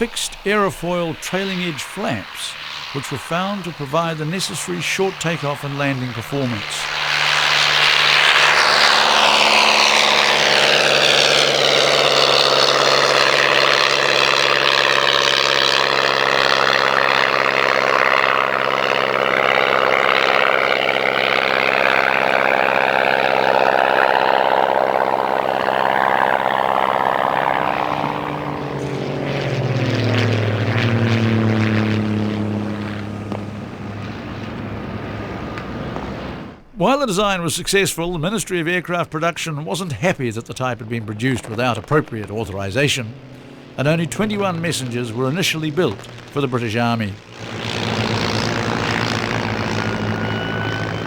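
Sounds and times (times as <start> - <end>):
propeller aircraft flying past: 0.0 - 51.0.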